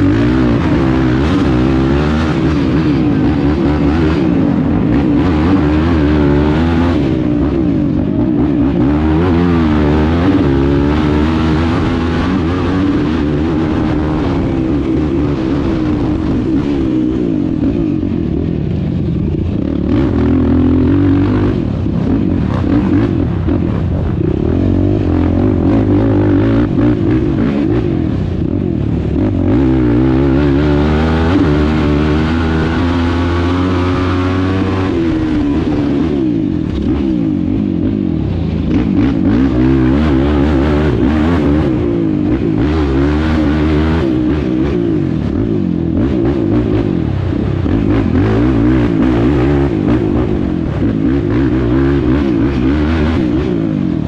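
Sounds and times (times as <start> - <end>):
quad engine revving: 0.0 - 18.8, 19.4 - 54.0.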